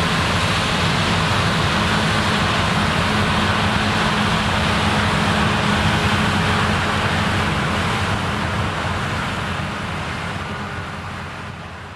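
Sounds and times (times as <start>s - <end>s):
combine harvester engine drone: 0.0s - 11.9s.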